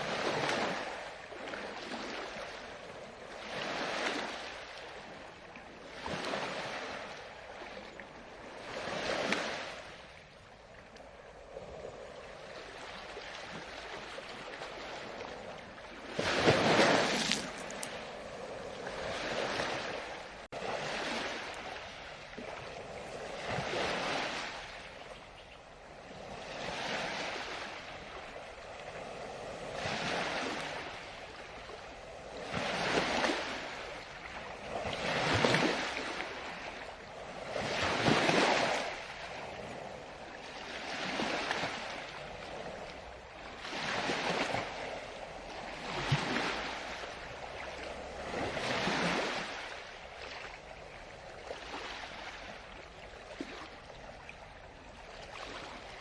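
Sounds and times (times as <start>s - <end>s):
ocean waves breaking: 0.0s - 56.0s.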